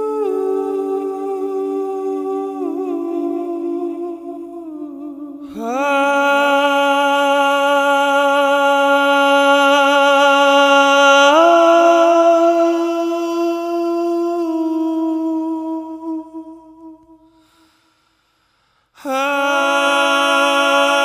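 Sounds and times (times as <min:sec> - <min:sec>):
voices singing wordless harmony: 0:00.0 - 0:17.5, 0:19.0 - 0:21.0.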